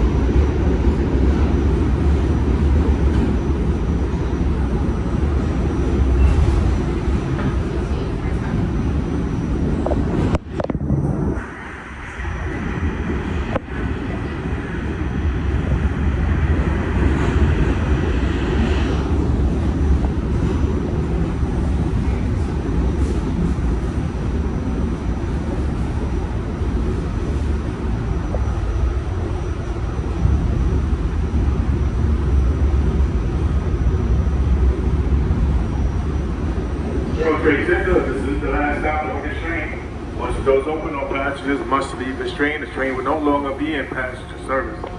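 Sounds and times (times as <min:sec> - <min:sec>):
subway train wheels rumbling: 0:00.0 - 0:44.9.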